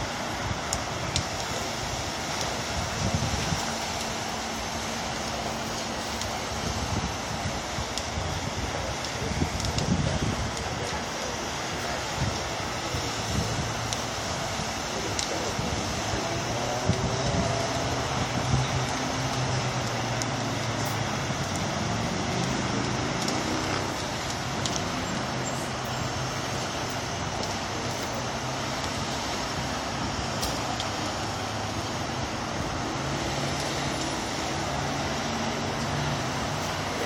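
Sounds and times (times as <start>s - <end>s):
freeway traffic noise: 0.0s - 37.0s
vehicle engine running low: 0.0s - 37.0s.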